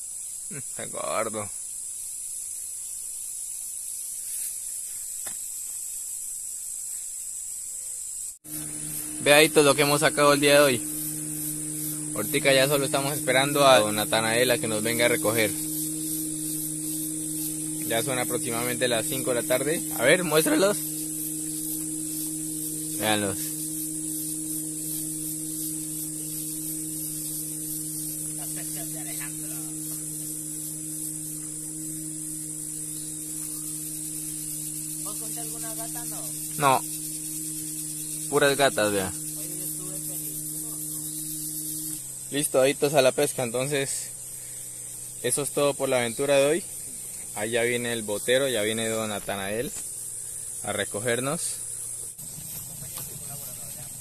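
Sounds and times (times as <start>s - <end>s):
high shrill hiss: 0.0s - 54.0s
high-pitched insect chorus: 0.0s - 54.0s
steady low hum: 8.2s - 54.0s.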